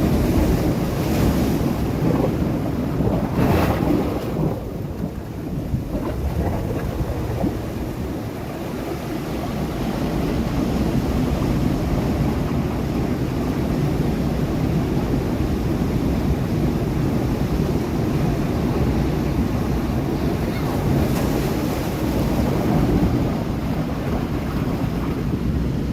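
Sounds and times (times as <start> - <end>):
sea waves breaking on rocks: 0.0 - 25.7.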